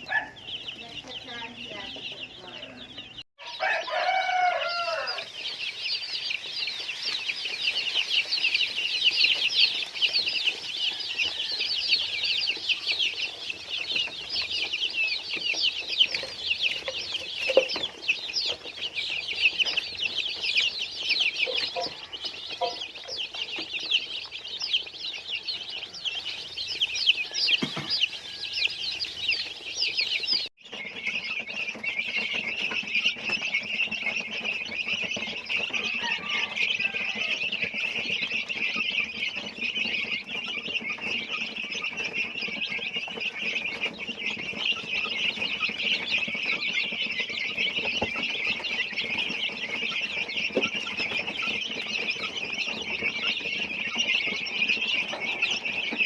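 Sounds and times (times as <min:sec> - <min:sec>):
chicken calling: 0:00.0 - 0:56.0
chicks peeping: 0:00.0 - 0:56.0.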